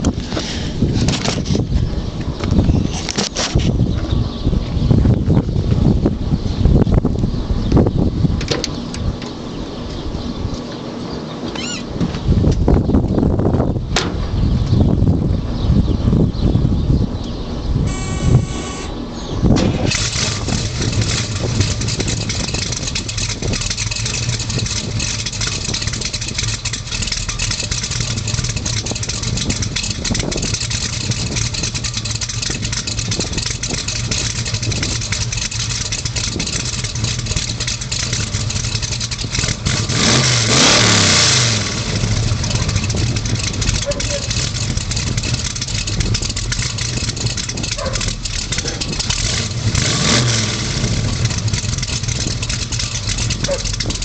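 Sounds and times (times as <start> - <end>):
engine idling rough: 0.0 - 54.0.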